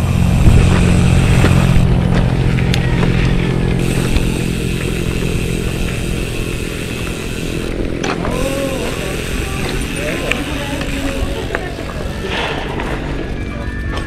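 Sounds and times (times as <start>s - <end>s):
low rumbling noise: 0.0s - 14.0s
small engine running: 0.0s - 14.0s.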